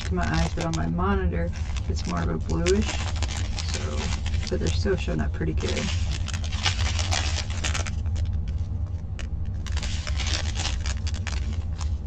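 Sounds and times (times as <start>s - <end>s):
low hum: 0.0s - 12.0s
plastic bags crinkling: 0.0s - 12.0s.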